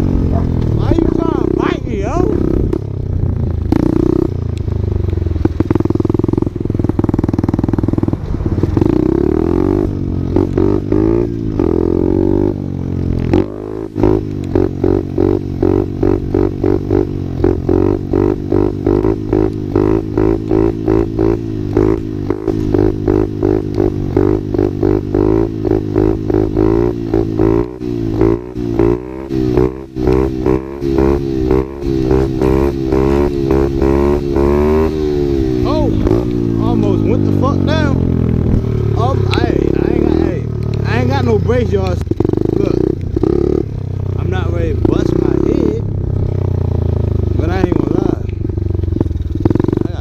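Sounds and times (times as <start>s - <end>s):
small motorcycle engine running: 0.0s - 50.0s.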